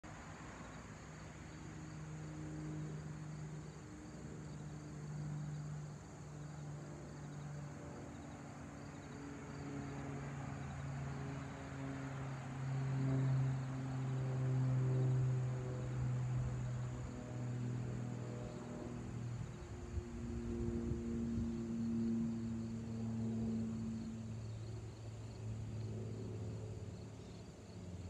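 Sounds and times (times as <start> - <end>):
propeller plane droning overhead: 0.0 - 28.0.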